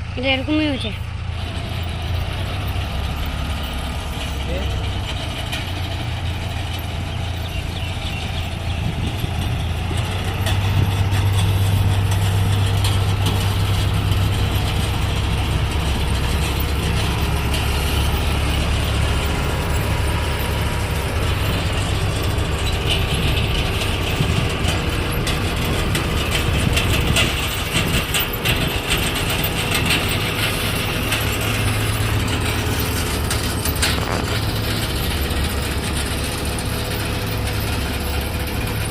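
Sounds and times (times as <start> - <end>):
harvester engine running: 0.0 - 38.9.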